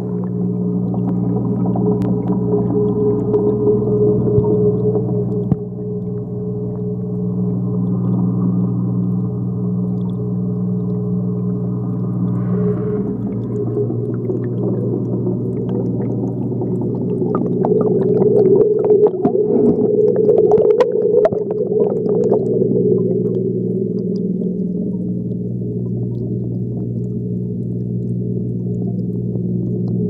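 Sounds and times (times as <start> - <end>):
muffled underwater hum: 0.0 - 30.0.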